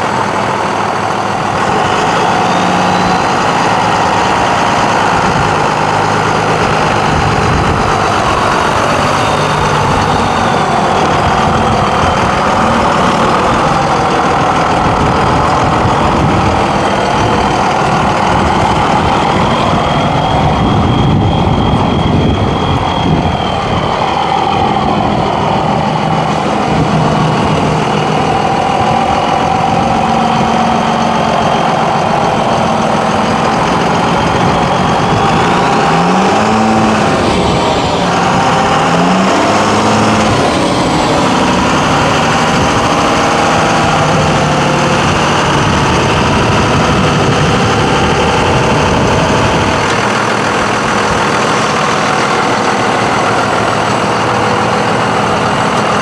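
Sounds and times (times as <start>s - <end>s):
diesel truck engine idling and revving: 0.0s - 56.0s.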